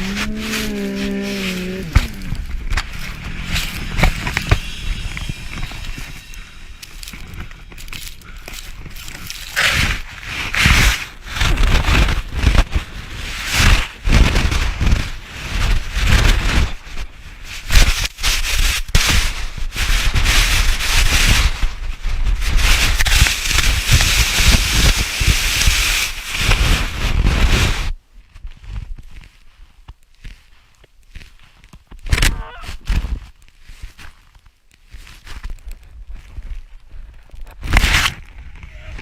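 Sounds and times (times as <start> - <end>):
snow scraping against camera: 0.0 - 39.0.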